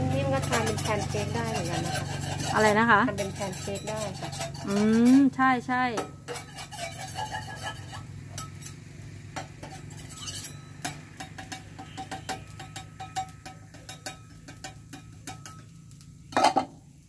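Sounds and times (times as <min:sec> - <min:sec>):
metal spatula scraping griddle: 0:00.0 - 0:16.7.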